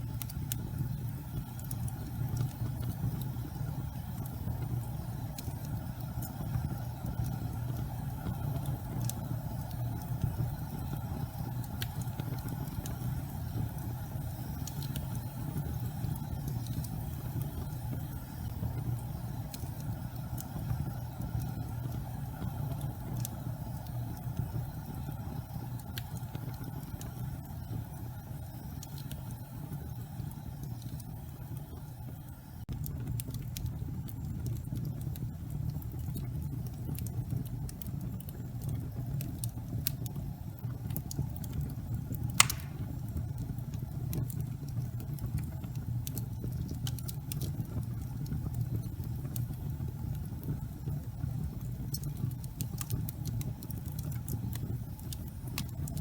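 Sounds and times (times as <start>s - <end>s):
fire crackles and pop: 0.0s - 56.0s
gas fireplace flames rumbling: 0.0s - 56.0s.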